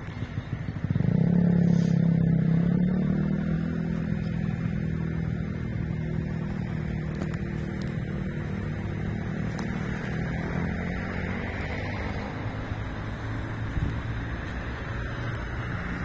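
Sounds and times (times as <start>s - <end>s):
low rumble of traffic: 0.0s - 16.0s
passing vehicle engine: 0.0s - 16.0s.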